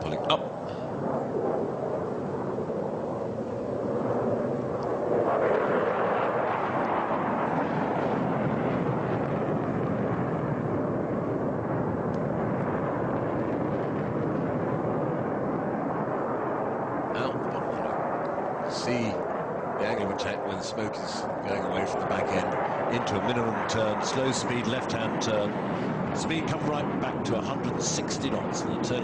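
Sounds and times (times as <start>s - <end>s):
fighter jet engine roar: 0.0s - 29.0s.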